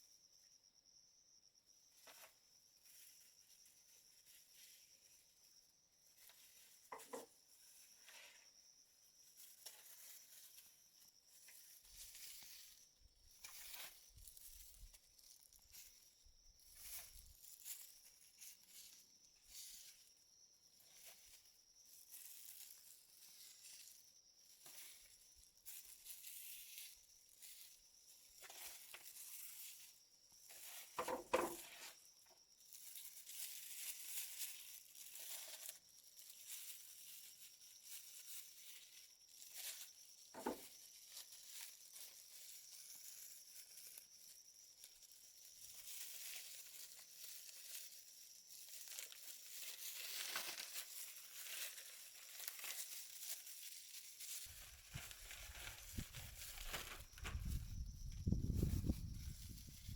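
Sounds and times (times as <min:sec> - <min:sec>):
faint rustling and crinkling: 0:01.4 - 0:59.9.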